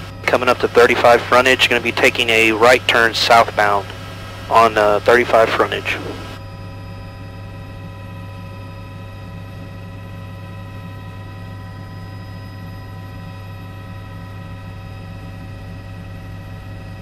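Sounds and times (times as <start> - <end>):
aircraft drone over intercom: 0.0 - 17.0.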